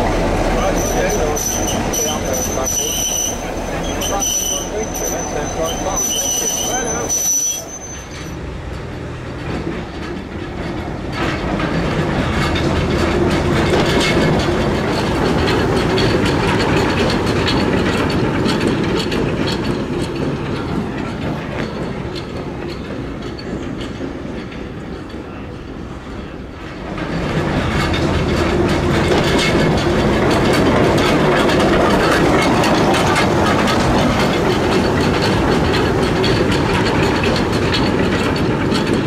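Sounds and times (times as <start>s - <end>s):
wheels clicking over rail joints: 0.0s - 39.0s.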